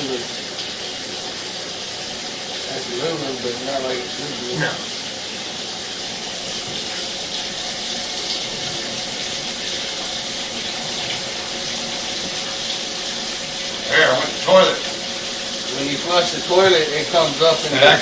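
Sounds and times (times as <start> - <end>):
water rushing in plumbing: 0.0 - 18.0.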